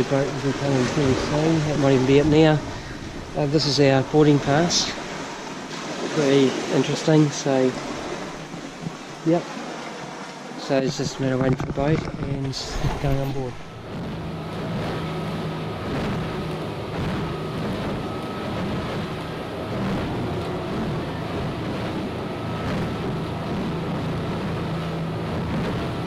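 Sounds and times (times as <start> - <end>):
outboard motor droning: 0.0 - 26.0
rushing water and spray: 0.0 - 26.0.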